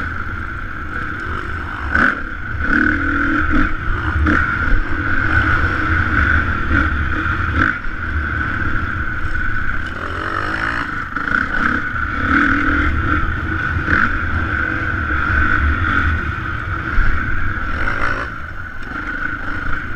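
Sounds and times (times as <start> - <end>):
motocross bike engine: 0.0 - 19.9.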